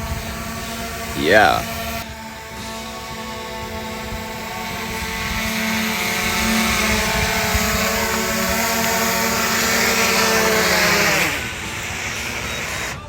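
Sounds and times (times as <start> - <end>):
drone propellers buzzing: 0.0 - 12.8.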